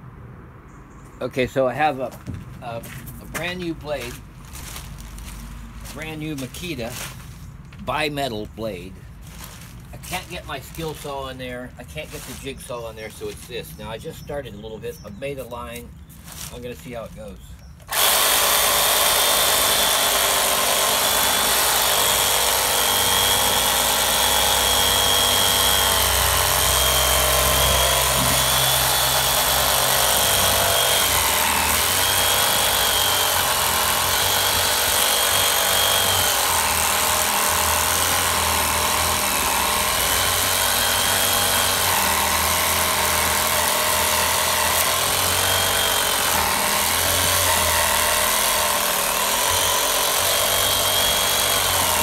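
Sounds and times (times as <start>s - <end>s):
power saw cutting wood: 3.5s - 7.2s, 9.2s - 13.7s, 17.8s - 52.0s.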